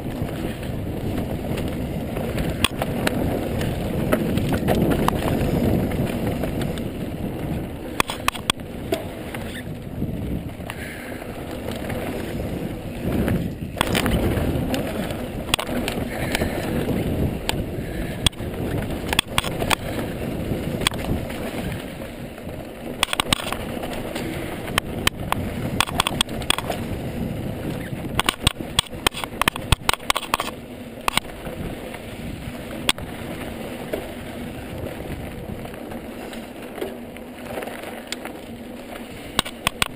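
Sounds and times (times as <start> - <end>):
bike clicks and rattles: 0.0 - 39.9
tyres rumbling on dirt: 0.0 - 39.9
wind buffeting microphone: 0.0 - 39.9.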